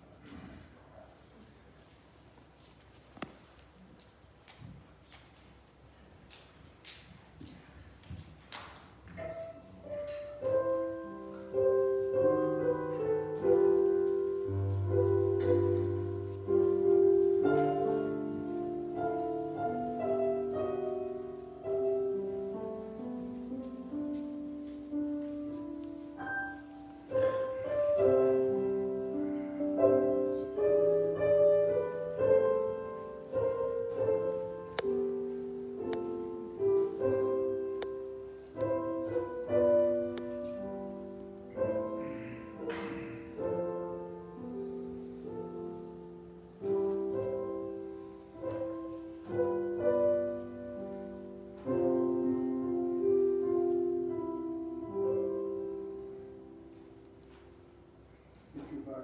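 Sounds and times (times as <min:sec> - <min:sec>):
slow solo piano chords: 0:09.1 - 0:59.0.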